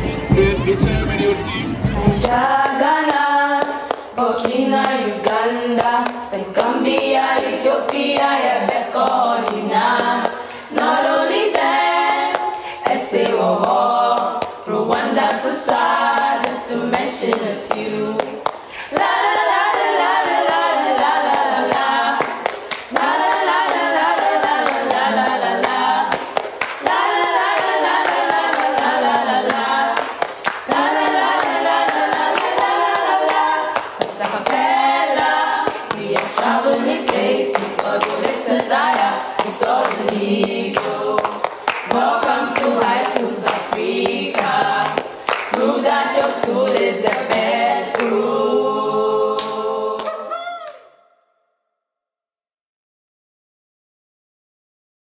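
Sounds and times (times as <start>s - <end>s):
girls singing a cappella: 1.9s - 50.6s
hand clapping: 2.2s - 48.3s, 49.4s - 50.8s.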